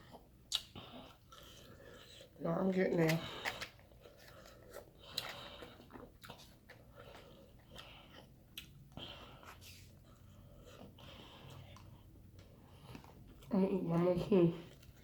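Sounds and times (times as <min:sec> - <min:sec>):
person chewing food: 0:00.0 - 0:02.4, 0:03.0 - 0:13.5, 0:14.6 - 0:15.0.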